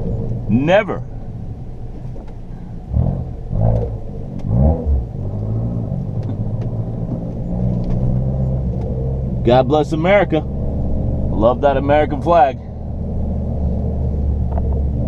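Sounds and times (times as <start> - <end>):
car engine hum inside cabin: 0.0 - 15.0.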